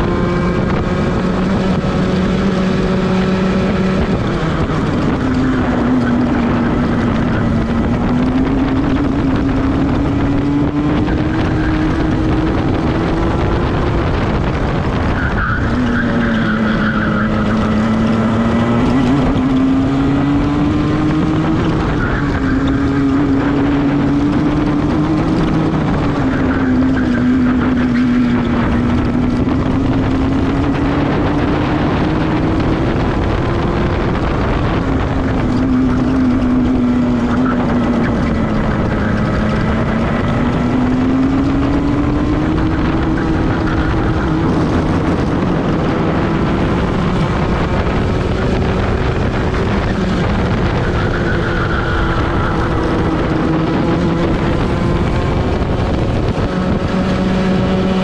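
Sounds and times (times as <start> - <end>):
kart engine at full throttle: 0.0 - 58.0.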